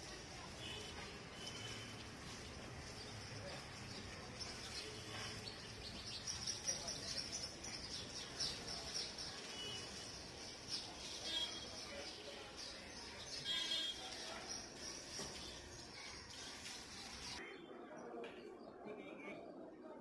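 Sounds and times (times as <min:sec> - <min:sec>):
faint outdoor background noise: 0:00.0 - 0:20.0
birds chirping: 0:00.1 - 0:17.4.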